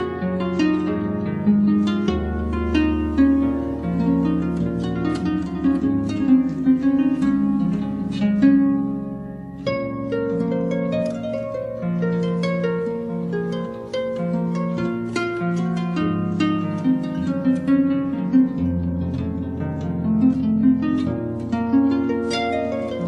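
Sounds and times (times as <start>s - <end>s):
plucked harp notes: 0.0s - 23.0s.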